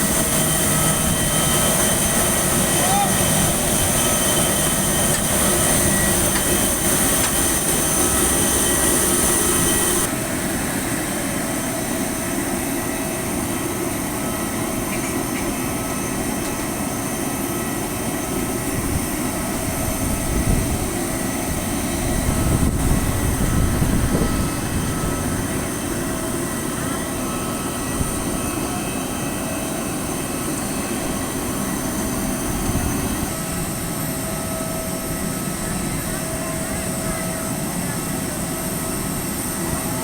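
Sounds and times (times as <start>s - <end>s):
airliner engines whining: 0.0s - 40.0s.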